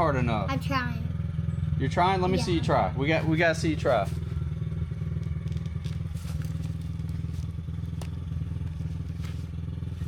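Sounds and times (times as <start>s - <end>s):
dirt bike engine idling: 0.0s - 10.0s.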